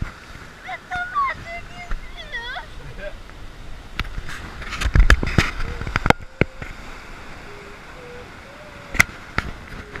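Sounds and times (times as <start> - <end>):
surf on rocky shore: 0.0 - 10.0.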